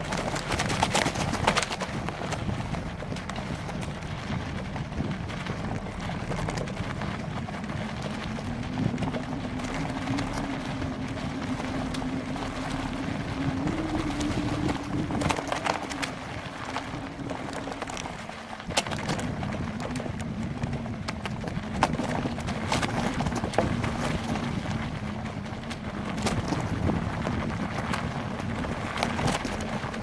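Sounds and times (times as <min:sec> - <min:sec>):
bike rattling over bumps: 0:00.0 - 0:30.0
steady hum: 0:00.0 - 0:30.0
wind rumbling on microphone: 0:00.0 - 0:30.0.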